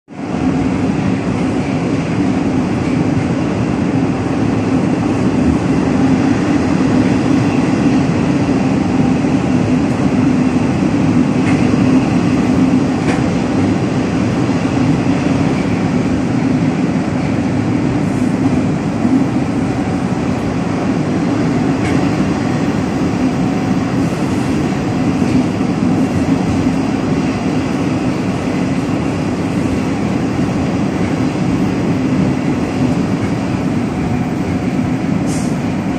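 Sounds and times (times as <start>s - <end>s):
metro train rumbling: 0.1s - 35.9s.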